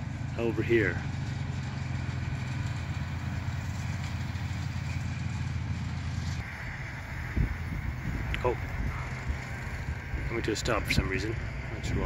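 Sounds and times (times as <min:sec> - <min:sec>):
baler machine noise: 0:00.0 - 0:12.0
tractor engine drone: 0:00.0 - 0:12.0.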